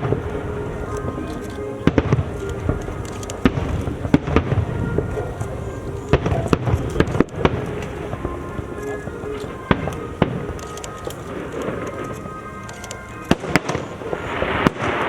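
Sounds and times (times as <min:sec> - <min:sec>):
fireworks bursting with bangs: 0:00.0 - 0:15.0
music with held notes: 0:00.0 - 0:15.0.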